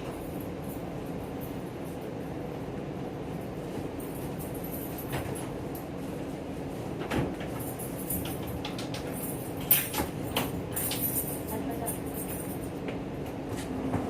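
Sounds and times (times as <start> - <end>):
train carriage rumble and hum: 0.0 - 14.0.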